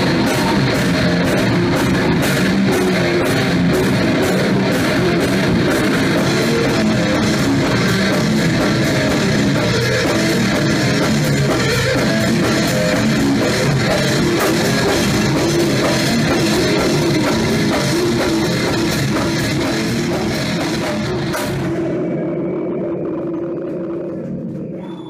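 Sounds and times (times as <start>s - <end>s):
death metal band playing: 0.0s - 24.7s.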